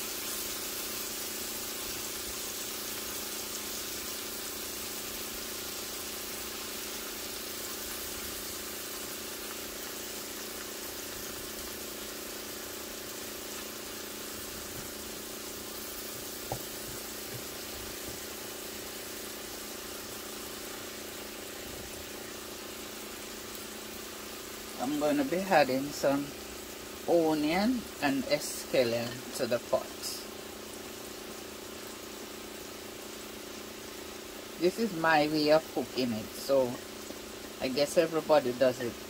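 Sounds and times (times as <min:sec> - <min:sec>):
mushrooms sizzling in frying pan: 0:00.0 - 0:39.0
steady hum: 0:00.0 - 0:39.0.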